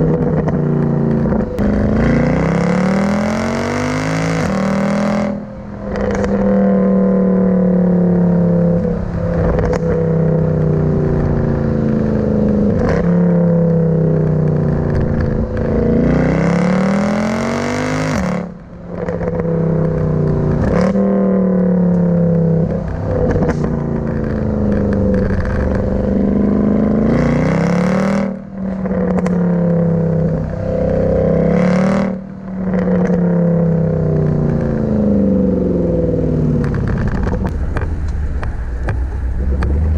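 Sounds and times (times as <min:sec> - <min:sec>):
car engine revving: 0:00.0 - 0:39.9
sharp exhaust cracks: 0:03.7 - 0:39.9.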